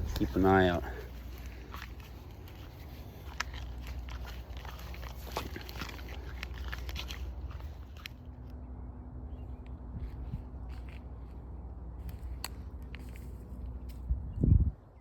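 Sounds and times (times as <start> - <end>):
footsteps crunching dry leaves: 0.0 - 8.5, 10.0 - 14.0.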